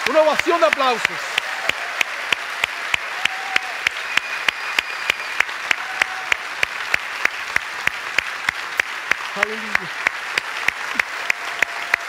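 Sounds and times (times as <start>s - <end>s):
crowd applauding: 0.0s - 12.0s
loud close clapping: 0.0s - 12.0s.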